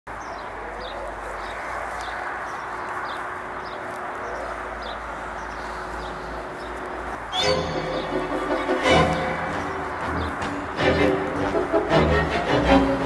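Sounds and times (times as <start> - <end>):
small birds chirping: 0.1 - 11.9
steady rushing noise: 0.1 - 13.0.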